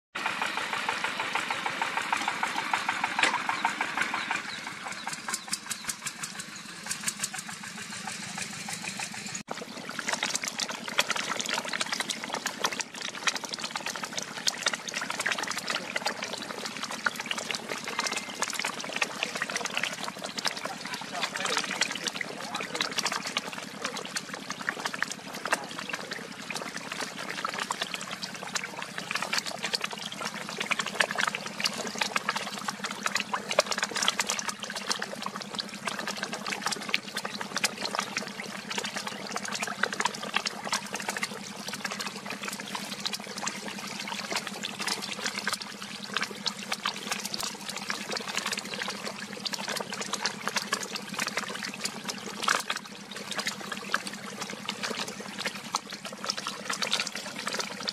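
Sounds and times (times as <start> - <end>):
fish splashing at water surface: 0.2 - 57.9.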